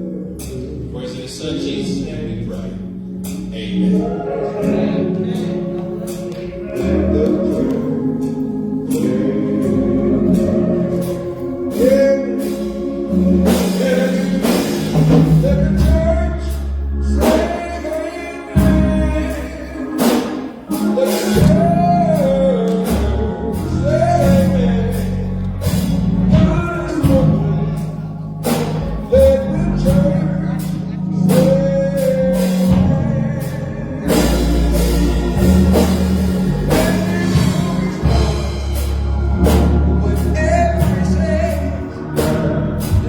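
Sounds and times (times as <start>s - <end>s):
gospel singing: 0.0s - 43.0s
low sustained keyboard notes: 0.0s - 43.0s
sharp percussion hits: 3.2s - 30.3s, 31.2s - 43.0s.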